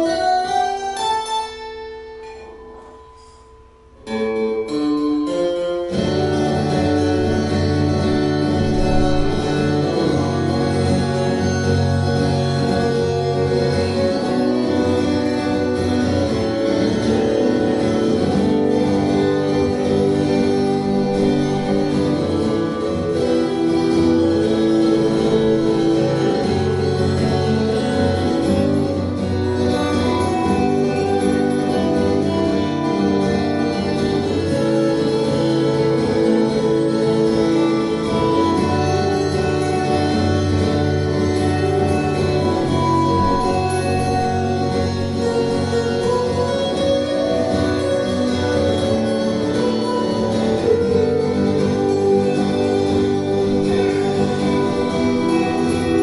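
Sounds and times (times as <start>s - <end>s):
acoustic guitar duet: 0.0s - 56.0s.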